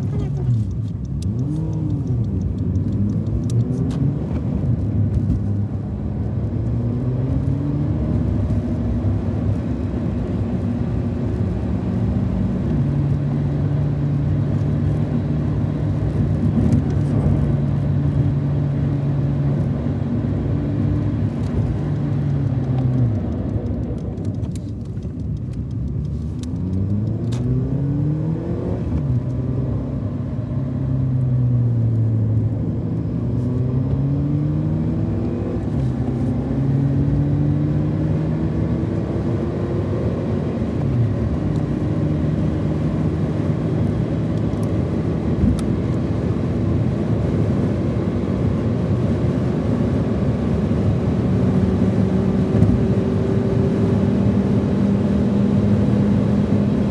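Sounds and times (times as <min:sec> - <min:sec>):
car engine revving through gears: 0:00.0 - 0:56.9
road noise: 0:00.0 - 0:56.9.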